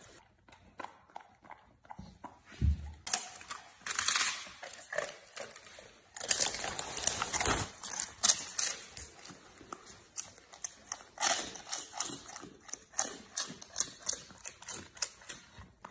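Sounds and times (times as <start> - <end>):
dog chewing crunchy treat: 0.2 - 15.9.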